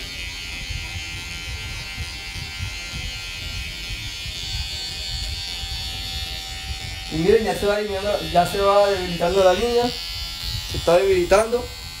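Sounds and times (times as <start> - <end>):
hair clipper buzzing: 0.0 - 12.0.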